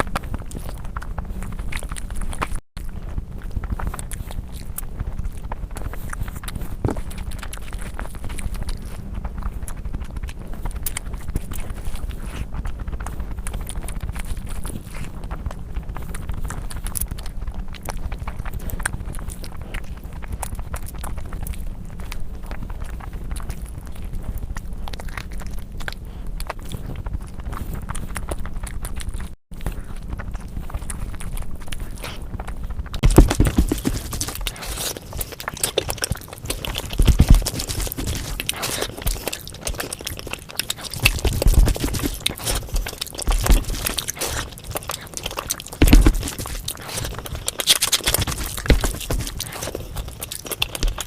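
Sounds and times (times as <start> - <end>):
chewing and mouth clicks: 0.0 - 51.0.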